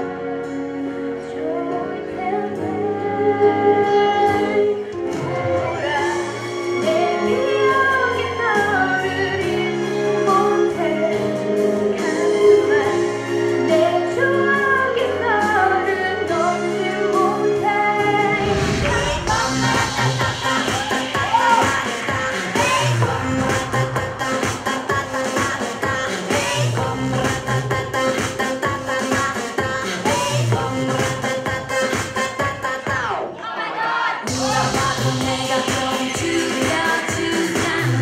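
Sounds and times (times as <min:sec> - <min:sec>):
woman singing: 0:01.2 - 0:38.0.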